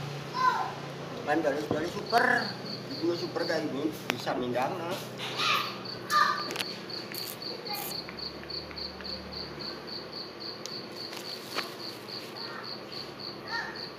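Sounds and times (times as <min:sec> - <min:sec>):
cricket chirping: 0:01.3 - 0:13.9.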